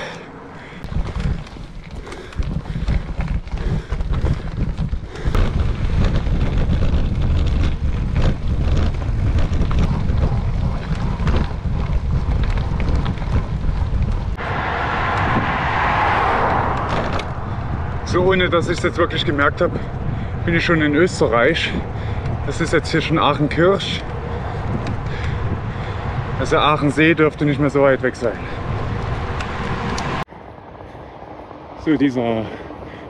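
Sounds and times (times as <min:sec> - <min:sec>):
bicycle tyres on gravel: 0:00.0 - 0:14.4, 0:17.0 - 0:30.2
wind buffeting microphone: 0:00.6 - 0:33.0.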